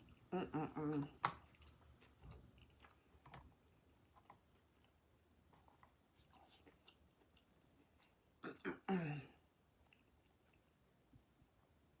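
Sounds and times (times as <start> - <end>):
person chewing quietly: 0.0 - 11.8.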